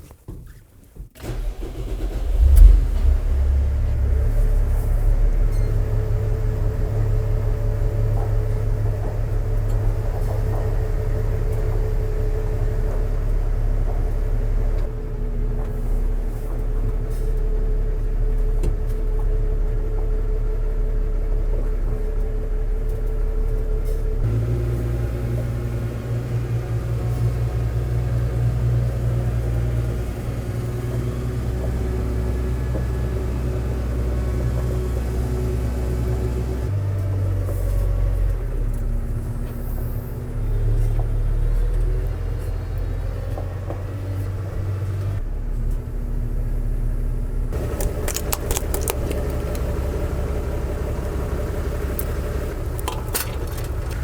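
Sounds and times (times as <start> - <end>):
tractor diesel engine running: 1.2 - 43.7, 46.7 - 54.0.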